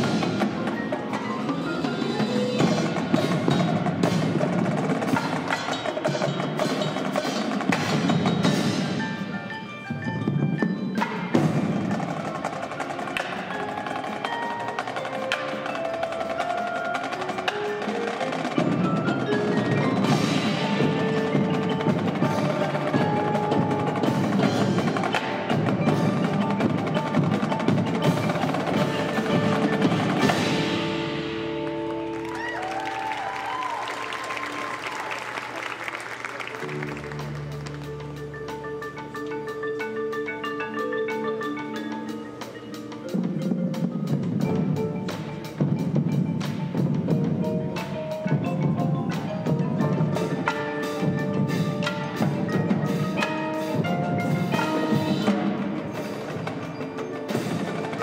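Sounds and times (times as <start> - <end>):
marching drums: 0.0 - 9.4, 10.0 - 37.9, 42.3 - 58.0
marimbas playing: 0.0 - 58.0.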